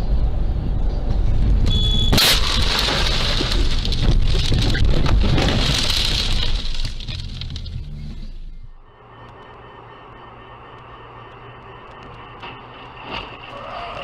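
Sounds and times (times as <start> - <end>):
vehicle running with road rumble: 0.0 - 14.0.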